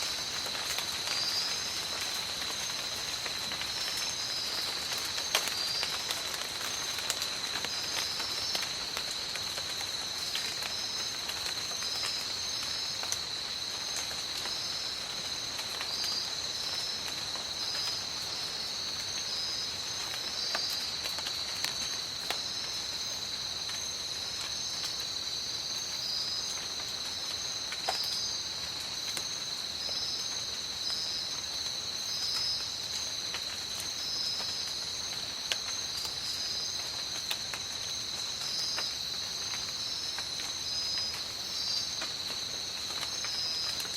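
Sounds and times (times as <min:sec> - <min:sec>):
rain falling steadily: 0:00.0 - 0:43.9.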